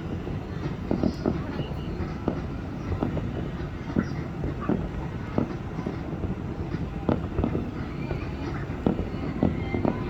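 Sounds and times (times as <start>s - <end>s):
fireworks bangs and pops: 0.0s - 10.0s
steady low rumble: 0.0s - 10.0s.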